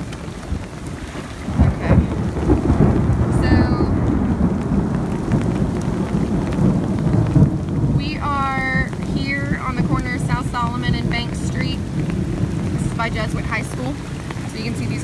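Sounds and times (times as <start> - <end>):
heavy rain falling: 0.0 - 15.0
low rumble of thunder: 0.0 - 15.0.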